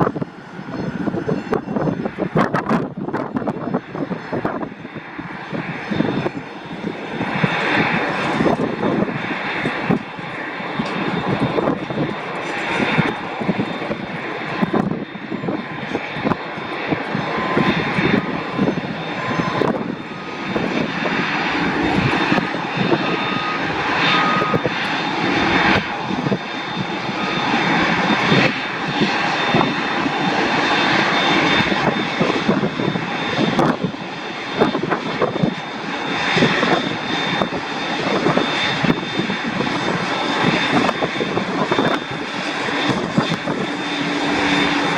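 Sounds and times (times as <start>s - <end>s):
airliner engines running: 0.0s - 44.9s.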